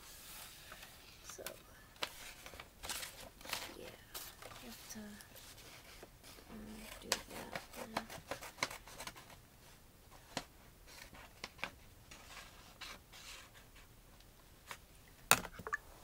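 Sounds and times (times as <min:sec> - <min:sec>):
paper rustling: 0:00.2 - 0:13.9.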